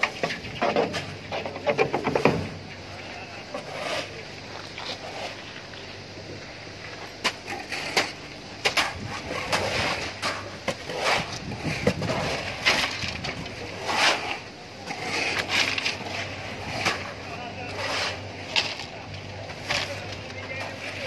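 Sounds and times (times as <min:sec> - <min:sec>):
shovels scraping wet concrete: 0:00.0 - 0:06.0, 0:06.9 - 0:21.0
low steady hum: 0:00.0 - 0:21.0.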